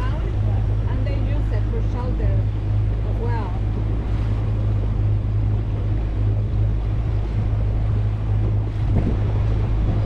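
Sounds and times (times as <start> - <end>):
boat motor droning: 0.0 - 10.0
wind buffeting microphone: 0.0 - 10.0.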